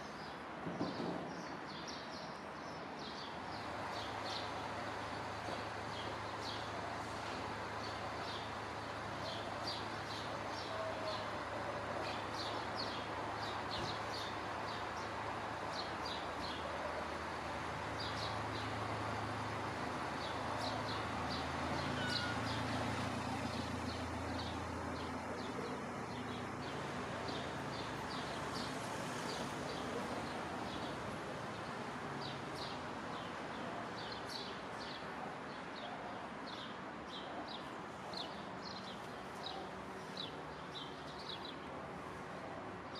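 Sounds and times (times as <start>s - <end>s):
traffic rumble: 0.0s - 42.9s.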